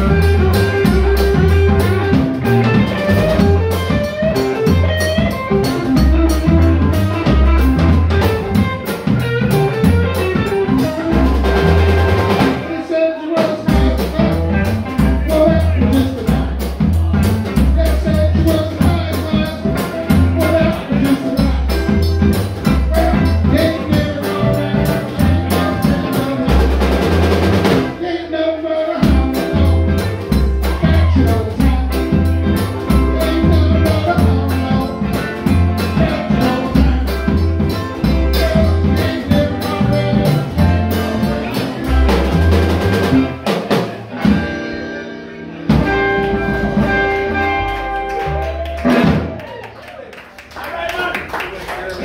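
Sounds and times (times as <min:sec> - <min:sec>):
live band playing: 0:00.0 - 0:52.0.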